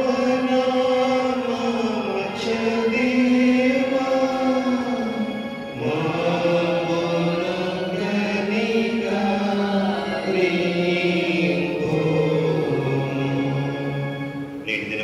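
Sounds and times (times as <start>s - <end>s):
man chanting a hymn: 0.0s - 15.0s.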